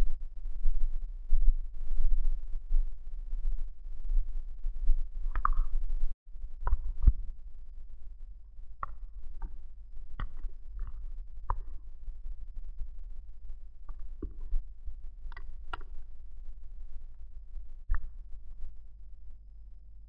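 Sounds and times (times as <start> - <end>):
wind on camera: 0.0 - 18.9.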